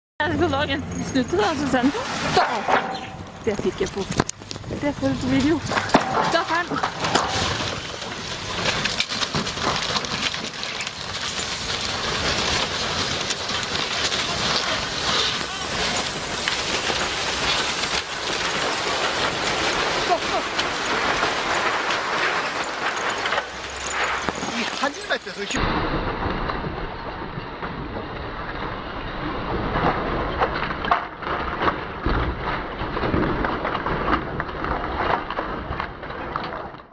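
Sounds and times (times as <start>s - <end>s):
trucks crashing and tumbling: 0.2s - 36.9s
cracks and crunches: 2.4s - 36.9s.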